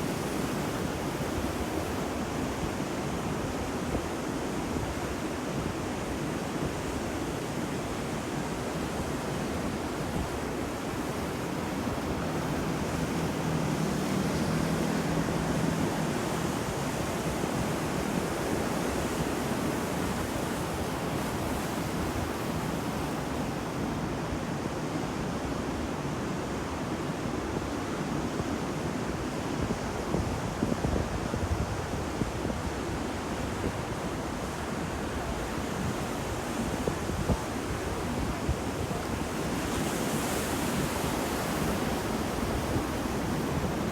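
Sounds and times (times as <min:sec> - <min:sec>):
ocean waves on shore: 0:00.0 - 0:43.9
wind: 0:00.0 - 0:43.9.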